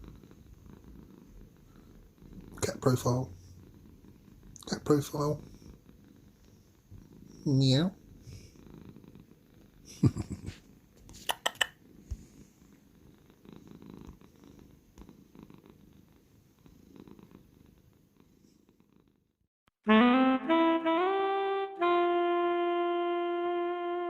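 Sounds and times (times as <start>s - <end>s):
cat purring: 0.0s - 19.5s.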